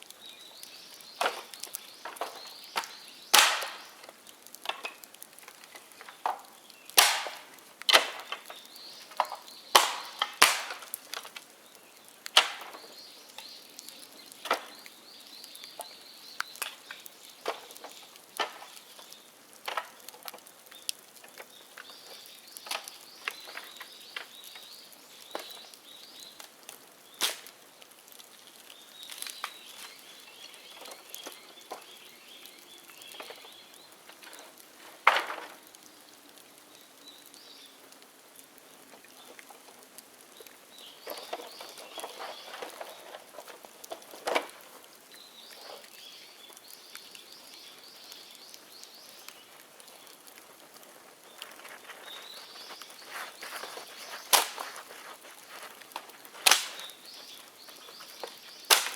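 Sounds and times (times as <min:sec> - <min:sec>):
bonfire crackling with sharp pops: 0:00.0 - 0:58.9.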